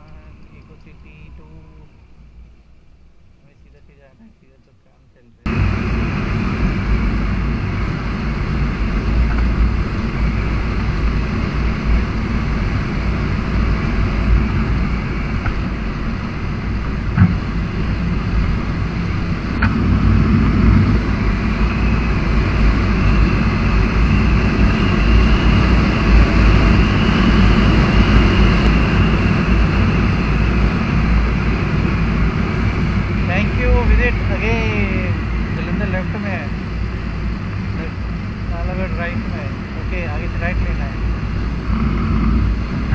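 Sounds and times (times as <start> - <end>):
motorcycle engine: 5.5 - 42.9
wind rush on microphone: 5.5 - 42.9.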